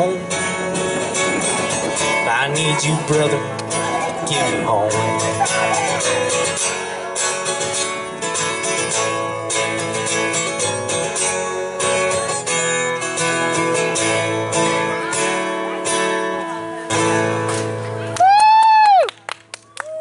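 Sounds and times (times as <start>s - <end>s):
acoustic guitar strumming: 0.0s - 18.2s.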